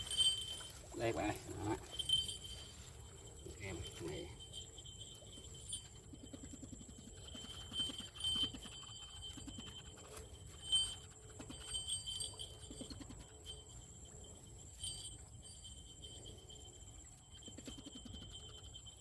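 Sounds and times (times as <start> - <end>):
faint high-pitched ringing: 0.0 - 19.0.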